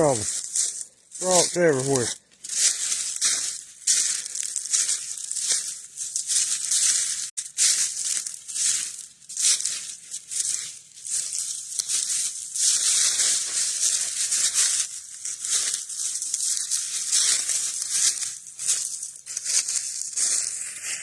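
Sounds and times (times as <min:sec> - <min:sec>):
footsteps crunching dry leaves: 0:00.0 - 0:21.0.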